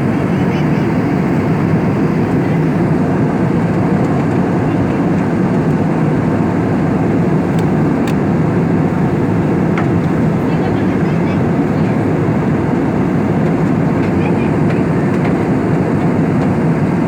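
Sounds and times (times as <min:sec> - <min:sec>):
jet engine and airflow noise: 0:00.0 - 0:17.0.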